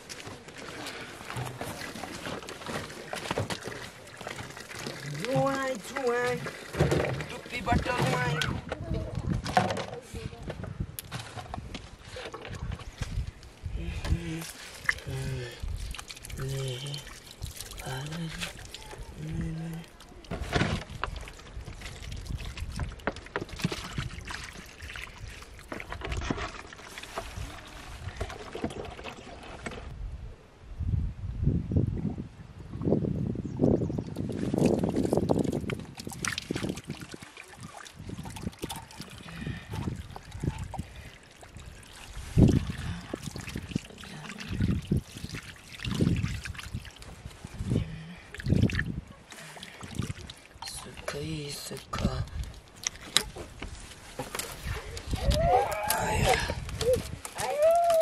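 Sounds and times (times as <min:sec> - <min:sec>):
water pouring into plastic bottle: 0:00.0 - 0:08.6, 0:14.3 - 0:29.9, 0:34.2 - 0:58.0.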